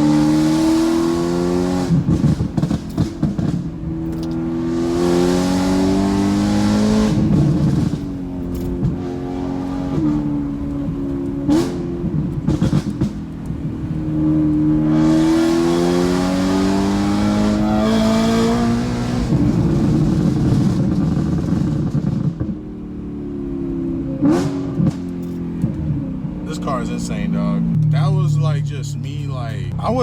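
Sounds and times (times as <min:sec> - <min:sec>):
exhaust crackling and popping: 0:00.0 - 0:22.8, 0:24.2 - 0:30.0
car engine accelerating hard: 0:00.0 - 0:30.0.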